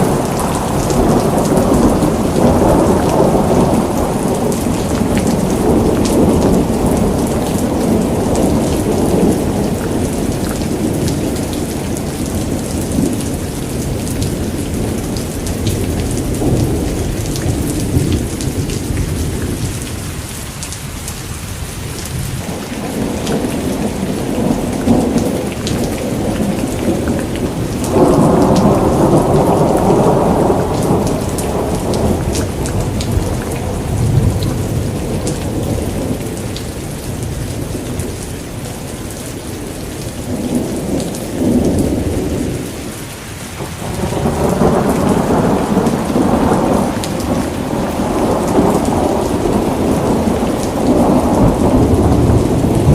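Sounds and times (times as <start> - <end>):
thunder rumbling: 0.0 - 20.2, 22.1 - 38.9, 43.6 - 52.9
heavy rain: 0.0 - 52.9.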